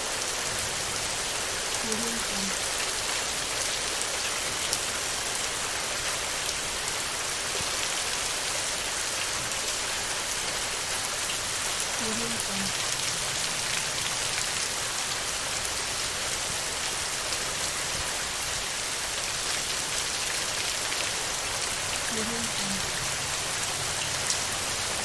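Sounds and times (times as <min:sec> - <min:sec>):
heavy rain on a tin roof: 0:00.0 - 0:25.0.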